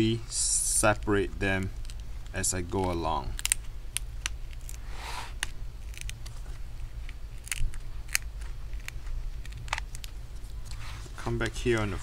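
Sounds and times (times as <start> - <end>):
adhesive tape crackling and snapping: 0.7 - 12.0.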